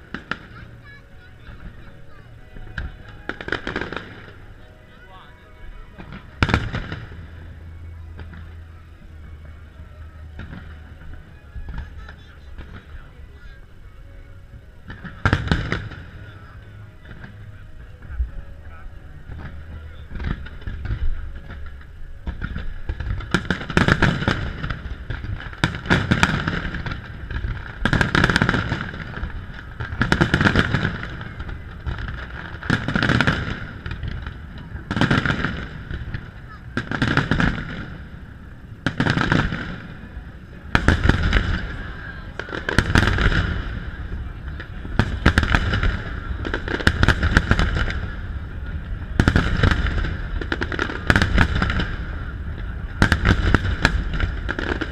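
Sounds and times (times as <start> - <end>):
fireworks booming overhead: 0.0 - 54.9.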